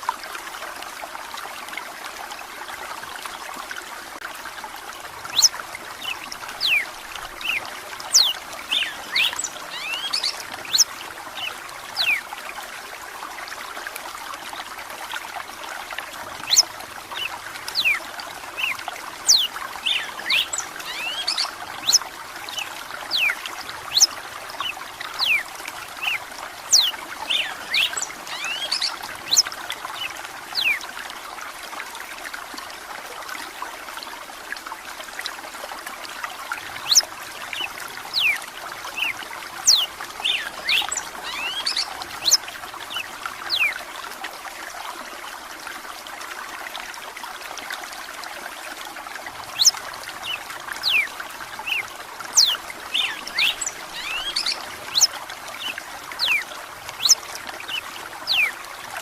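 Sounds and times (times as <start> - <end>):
water trickling and bubbling: 0.0 - 59.0.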